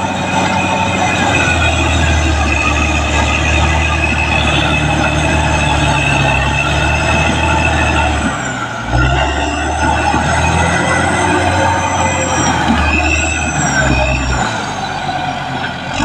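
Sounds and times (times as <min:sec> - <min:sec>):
diesel engine under load: 0:00.0 - 0:16.0
tracks squealing: 0:00.0 - 0:16.0.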